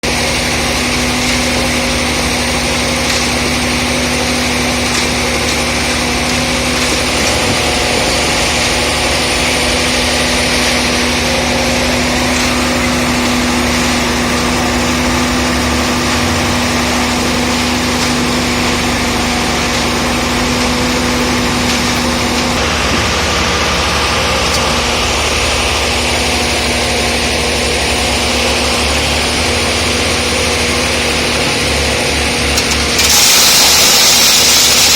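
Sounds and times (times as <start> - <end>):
diesel engine humming: 0.0 - 34.9.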